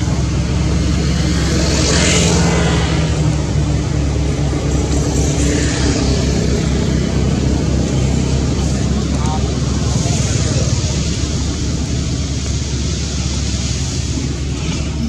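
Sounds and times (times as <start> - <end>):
hiss: 0.0 - 15.0
loud low rumble: 0.0 - 15.0.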